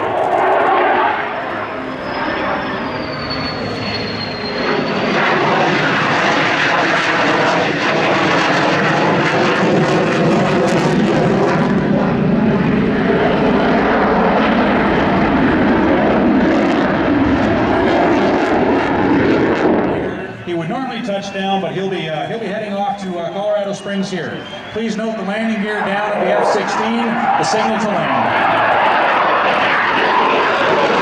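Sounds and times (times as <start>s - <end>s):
high whine falling in pitch: 0.0s - 7.8s, 10.9s - 31.0s
jet engine roaring: 0.0s - 31.0s.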